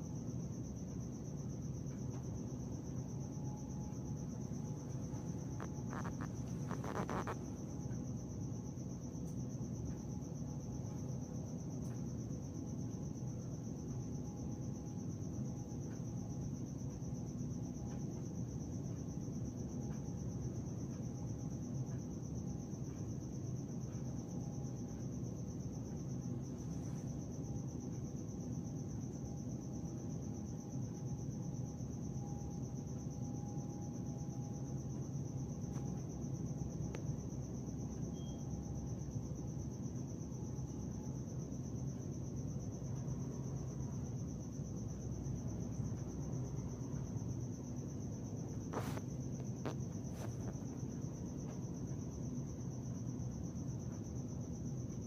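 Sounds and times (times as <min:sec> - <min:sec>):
crickets trilling: 0:00.0 - 0:55.0
low background hum: 0:00.0 - 0:55.0.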